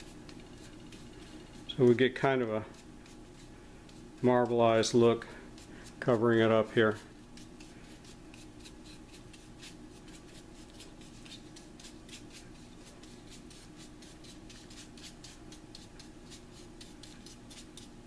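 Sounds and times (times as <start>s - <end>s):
brush bristles swishing on wood: 0.0s - 18.0s
steady low hum: 0.0s - 18.0s.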